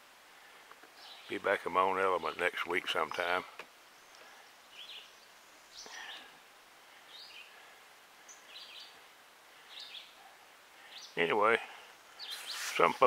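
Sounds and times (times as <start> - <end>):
faint outdoor hiss: 0.0 - 13.0
songbird chirping: 0.6 - 13.0.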